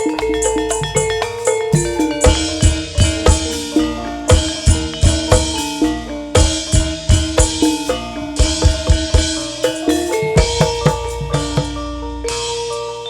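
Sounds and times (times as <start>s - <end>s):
drum beats with deep bass: 0.0s - 13.0s
metallophone melody: 0.0s - 13.0s.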